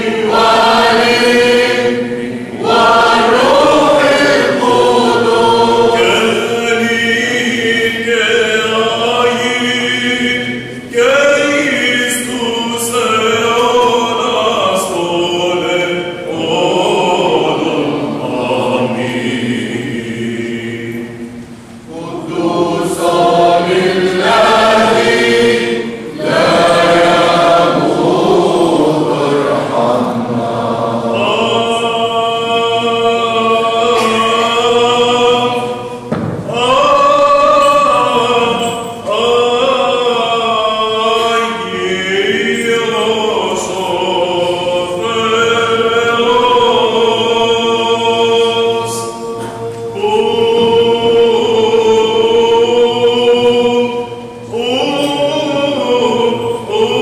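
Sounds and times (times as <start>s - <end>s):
group singing liturgical chant: 0.0s - 57.0s.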